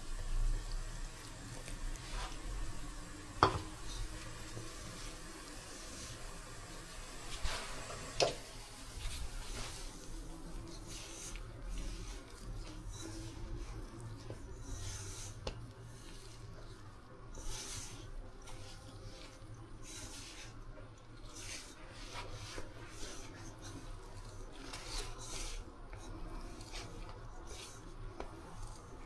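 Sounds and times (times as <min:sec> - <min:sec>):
hands kneading dough: 0:00.0 - 0:29.0.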